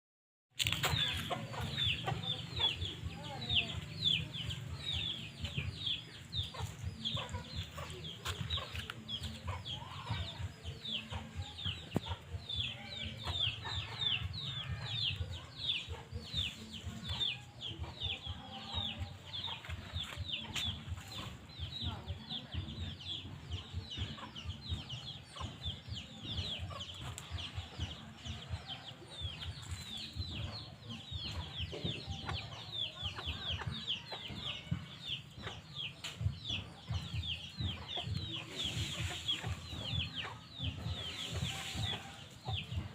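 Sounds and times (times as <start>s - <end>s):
chickens clucking: 0.6s - 42.9s.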